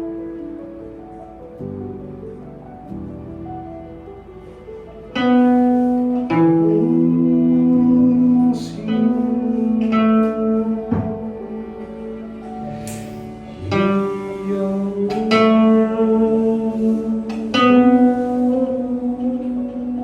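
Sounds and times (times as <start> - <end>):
plucked string melody: 0.0 - 20.0.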